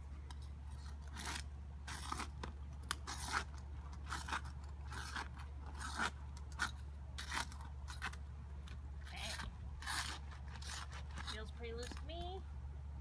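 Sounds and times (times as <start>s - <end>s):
putty knife scraping shingle: 0.7s - 8.2s, 9.1s - 12.1s.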